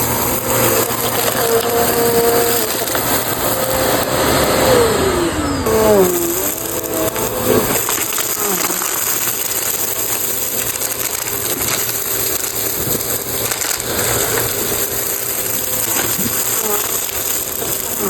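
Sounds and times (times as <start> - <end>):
debris crackling and rattling: 0.0 - 18.0
vacuum cleaner motor whine: 0.0 - 18.0.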